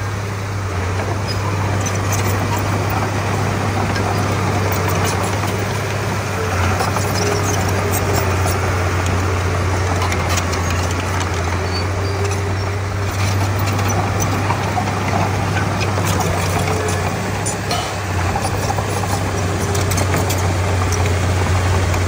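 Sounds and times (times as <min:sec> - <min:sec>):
bulldozer diesel engine droning: 0:00.0 - 0:22.0.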